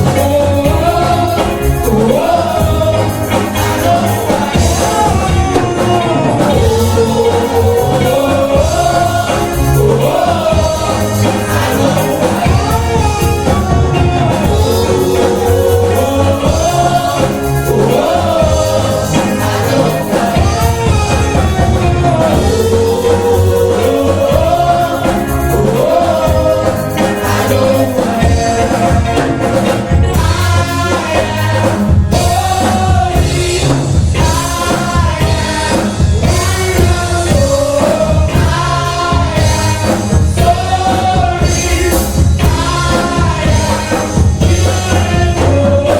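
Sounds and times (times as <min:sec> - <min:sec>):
gospel group singing: 0:00.0 - 0:45.9
live band with bass and drums: 0:00.0 - 0:45.9.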